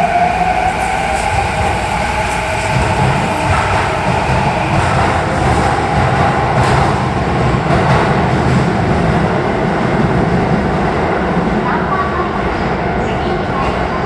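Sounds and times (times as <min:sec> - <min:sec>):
electric train running: 0:00.0 - 0:12.8.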